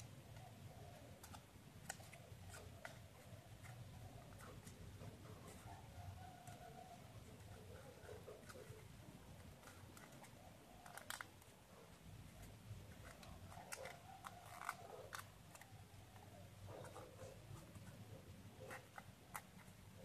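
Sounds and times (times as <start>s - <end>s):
paper being creased and folded: 0.0s - 20.0s.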